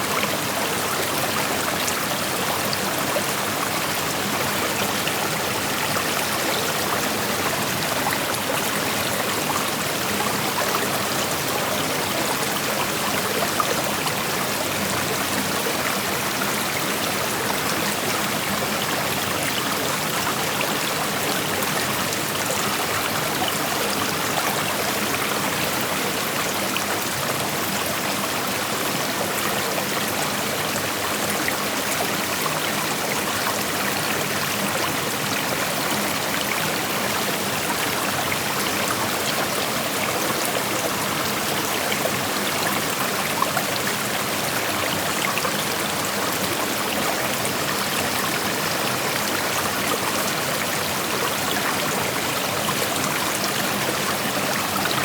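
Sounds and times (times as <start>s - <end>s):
creek water flowing over rocks: 0.0s - 55.0s.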